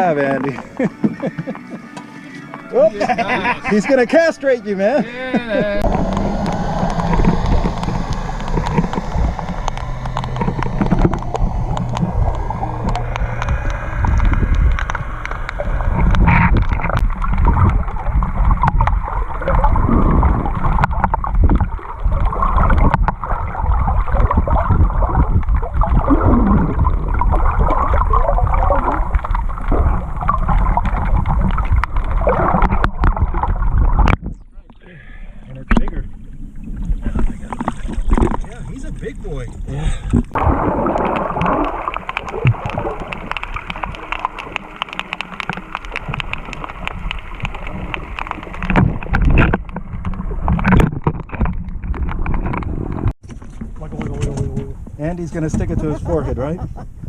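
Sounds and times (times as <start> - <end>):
low hum: 0.0 - 55.8
water noise: 0.0 - 57.0
wind: 0.0 - 57.0.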